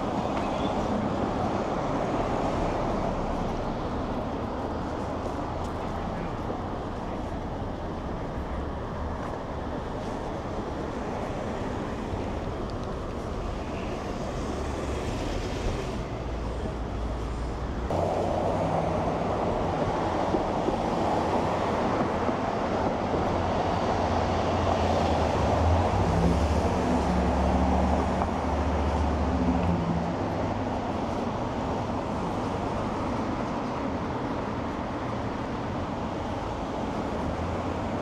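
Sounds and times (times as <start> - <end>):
street noise: 0.0 - 38.0.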